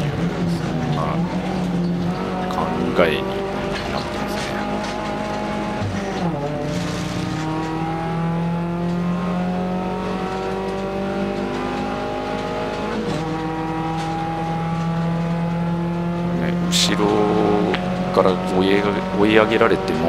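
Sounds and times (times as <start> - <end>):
race car engine at full throttle: 0.0 - 20.0.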